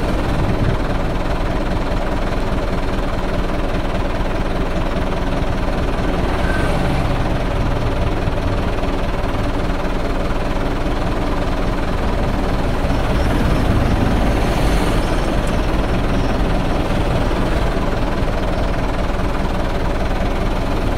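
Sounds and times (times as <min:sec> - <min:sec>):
engine running low rumble: 0:00.0 - 0:20.9.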